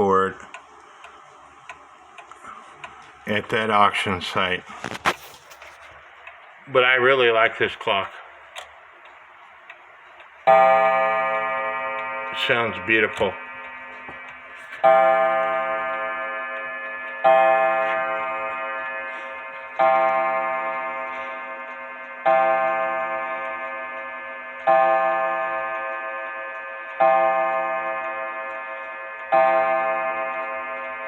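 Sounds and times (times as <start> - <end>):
wall clock striking: 0.0 - 0.6, 5.6 - 31.0
clock ticking: 0.0 - 3.9, 5.9 - 31.0.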